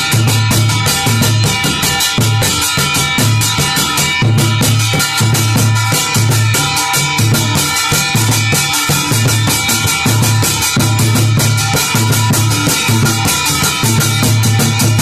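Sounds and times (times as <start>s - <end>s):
drum beaten with a stick: 0.0s - 15.0s.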